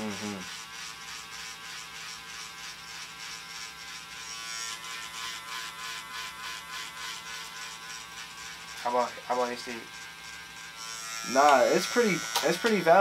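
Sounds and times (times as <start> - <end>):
electric buzz: 0.0 - 13.0.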